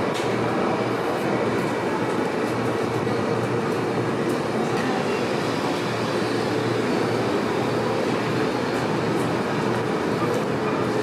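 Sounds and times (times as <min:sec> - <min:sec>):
subway train running: 0:00.0 - 0:11.0.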